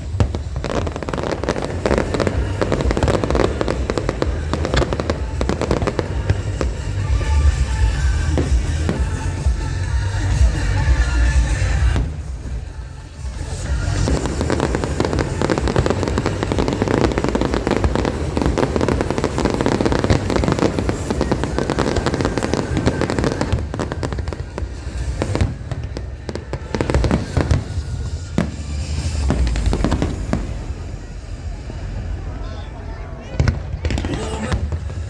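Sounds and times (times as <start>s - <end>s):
fireworks crackling and popping: 0.0s - 35.0s
fireworks deep booms: 0.0s - 35.0s.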